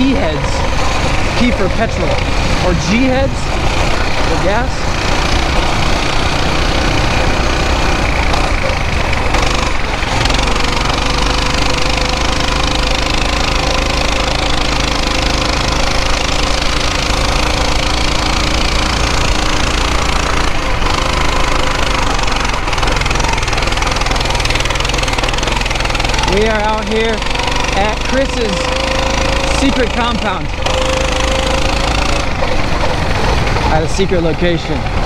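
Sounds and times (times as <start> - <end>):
small motorbike engine running: 0.0 - 35.0.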